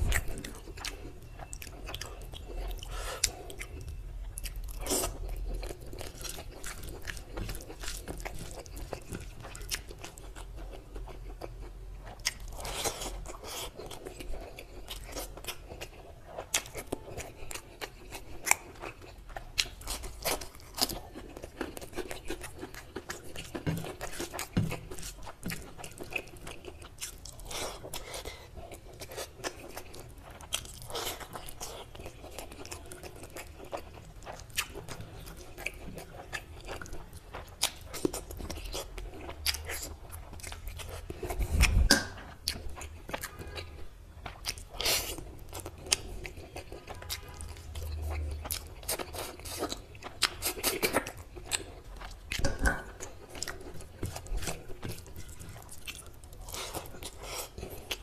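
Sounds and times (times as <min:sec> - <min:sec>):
close chewing with crunches: 0:00.0 - 0:58.0.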